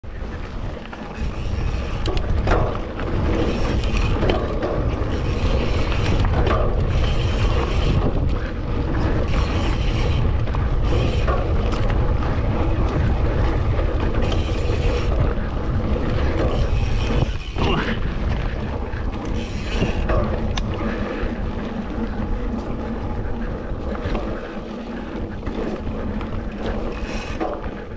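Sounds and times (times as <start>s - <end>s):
bike tyres on dirt: 0.0s - 27.9s
wind buffeting microphone: 0.0s - 27.9s
bike knocks and rattles: 0.1s - 27.9s.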